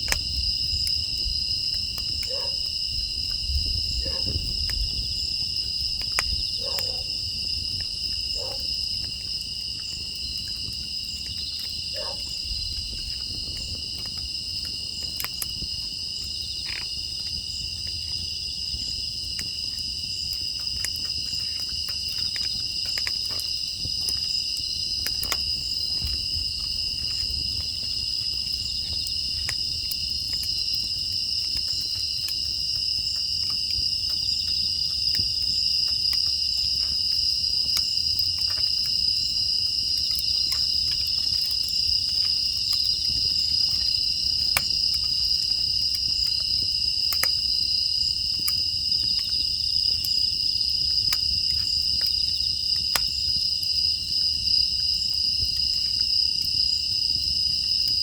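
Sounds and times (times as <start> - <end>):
crickets chirring: 0.0 - 58.0
wood fire crackling: 0.0 - 58.0.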